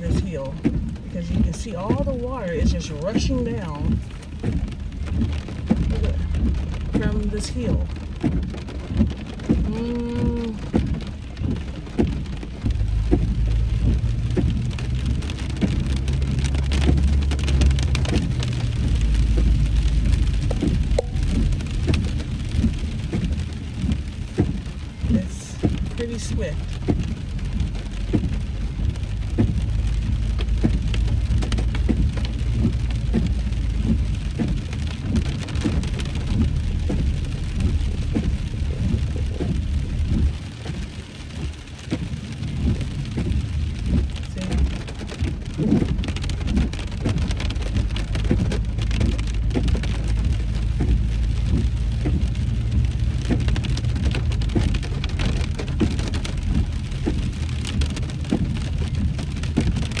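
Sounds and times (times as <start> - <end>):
heavy rain on car roof: 0.0 - 60.0
road and engine rumble: 0.0 - 60.0.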